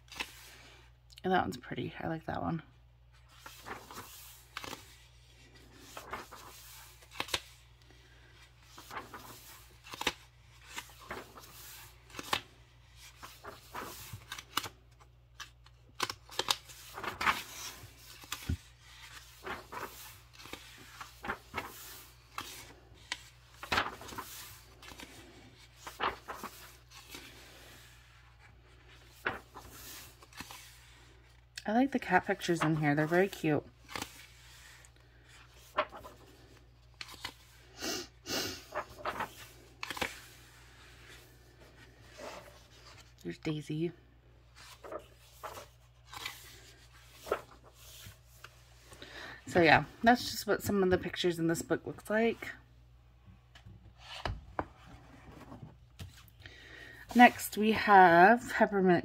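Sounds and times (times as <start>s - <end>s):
paper pages rustling: 0.0s - 0.6s, 3.0s - 37.7s, 38.6s - 43.8s, 44.4s - 52.4s, 53.4s - 58.2s.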